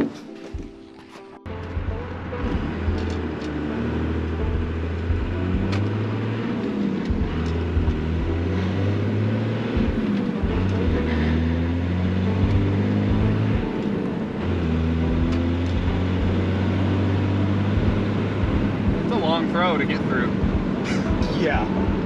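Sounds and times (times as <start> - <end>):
diesel truck engine driving: 1.4 - 22.0.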